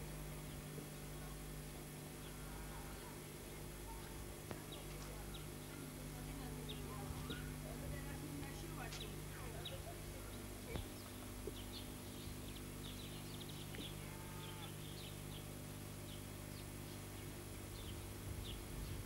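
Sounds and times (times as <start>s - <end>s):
steady low hum: 0.0s - 19.0s
small birds chirping: 2.1s - 19.0s.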